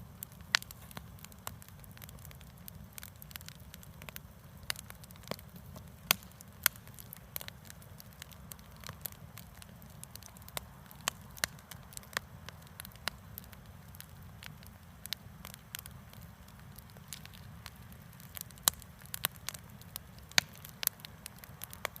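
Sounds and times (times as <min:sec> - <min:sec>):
campfire crackling and popping: 0:00.0 - 0:22.0
soft steady fire hiss: 0:00.0 - 0:22.0.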